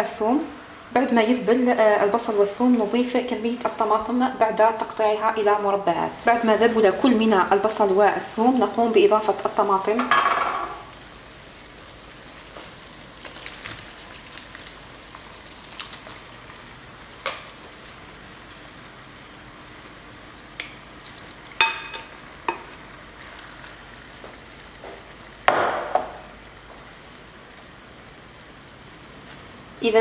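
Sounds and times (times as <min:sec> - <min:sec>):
onion frying in oil: 0:00.0 - 0:30.0.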